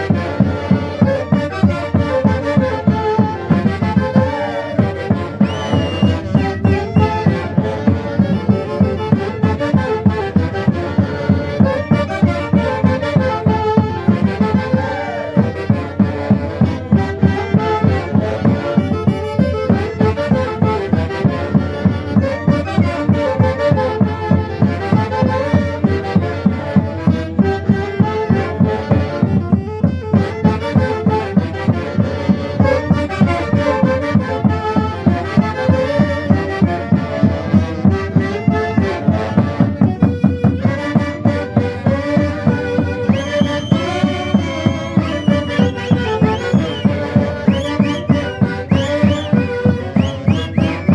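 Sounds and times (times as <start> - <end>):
steady drum beat: 0.0 - 50.9
wind instrument melody: 0.0 - 50.9.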